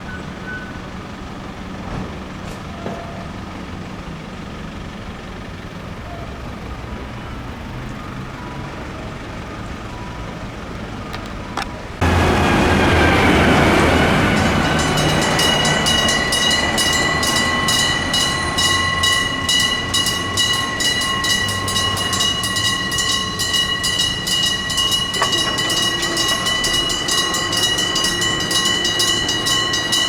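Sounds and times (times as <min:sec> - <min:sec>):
road traffic with engine hum: 0:00.0 - 0:30.0.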